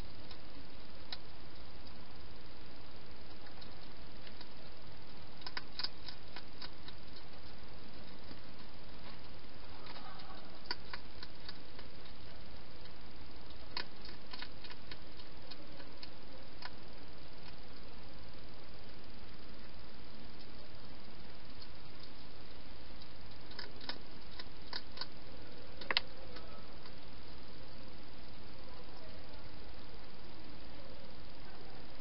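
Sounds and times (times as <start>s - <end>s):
hedgehog chewing clicks and crunches: 0.0s - 27.7s
steady hiss: 0.0s - 32.0s.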